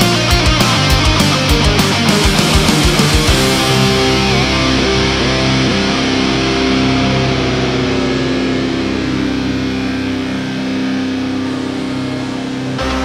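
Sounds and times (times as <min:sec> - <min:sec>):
electric guitar sustained chords: 0:00.0 - 0:13.0
heavy metal music: 0:00.0 - 0:13.0
low bass: 0:00.0 - 0:13.0.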